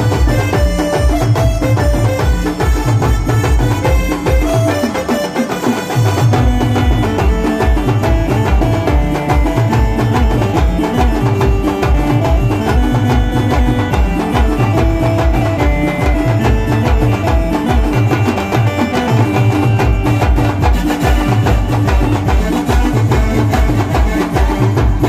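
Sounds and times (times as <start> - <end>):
drums beating fast rhythm: 0.0 - 25.0
melody of held notes: 0.0 - 25.0.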